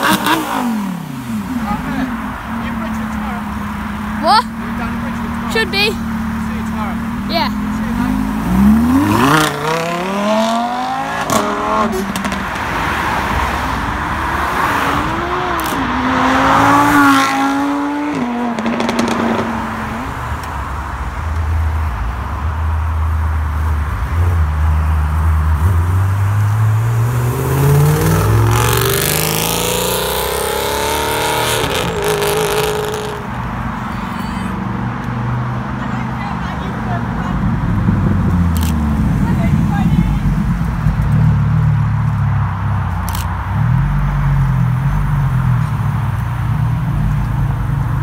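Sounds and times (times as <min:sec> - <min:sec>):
supercar engines accelerating: 0:00.0 - 0:20.5, 0:23.6 - 0:48.0.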